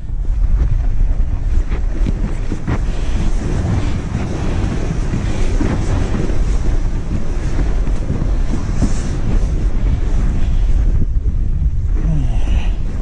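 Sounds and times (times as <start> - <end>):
wind buffeting microphone: 0.0 - 13.0
footsteps crunching on snow: 0.2 - 11.0.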